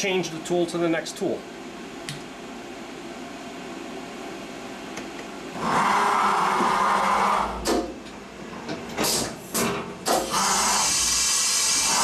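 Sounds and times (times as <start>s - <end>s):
loud whirring drive: 0.0s - 12.0s
steady machine hum: 0.0s - 12.0s.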